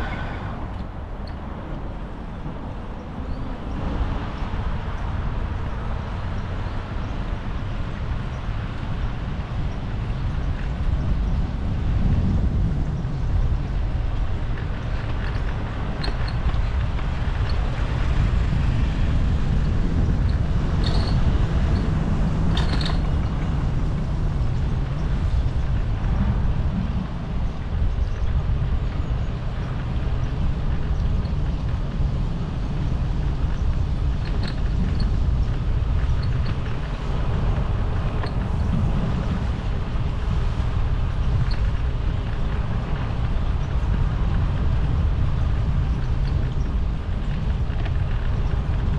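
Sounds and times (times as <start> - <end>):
road noise: 0.0 - 48.9
wind buffeting microphone: 0.0 - 48.9.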